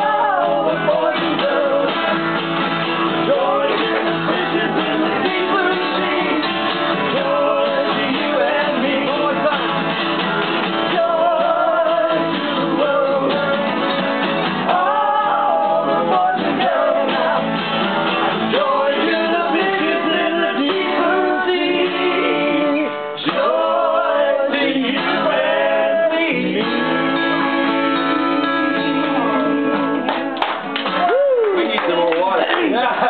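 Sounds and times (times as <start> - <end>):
man singing: 0.0 - 2.3, 3.1 - 9.9, 10.8 - 14.0, 14.7 - 17.6, 18.5 - 30.1
acoustic guitars: 0.0 - 33.0.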